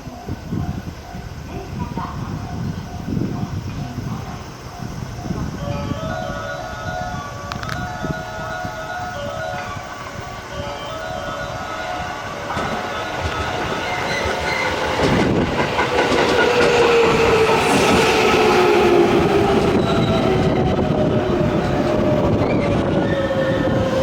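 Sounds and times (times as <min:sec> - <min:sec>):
electric train wheels rumbling: 0:00.0 - 0:24.0.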